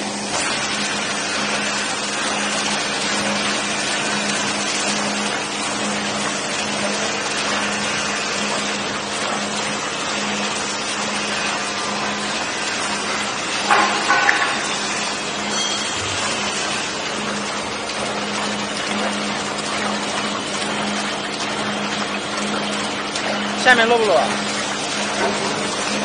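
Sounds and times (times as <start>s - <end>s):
mixer churning liquid: 0.0s - 26.0s
motor low hum: 0.0s - 26.0s.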